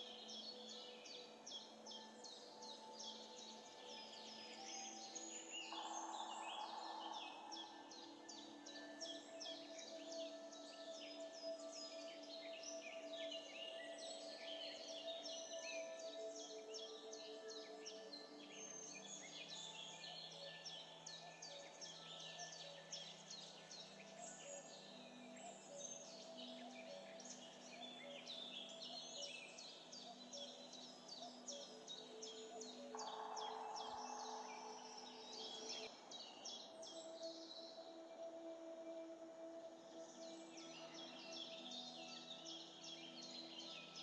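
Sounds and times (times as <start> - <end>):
soft ambient music: 0.0 - 44.0.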